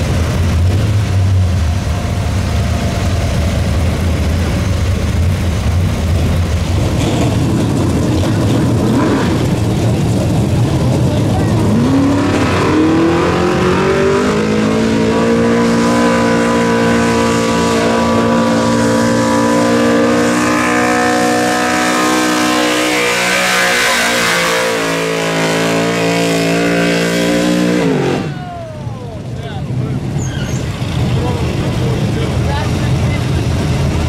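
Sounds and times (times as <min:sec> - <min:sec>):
truck engine revving: 0:00.0 - 0:34.0.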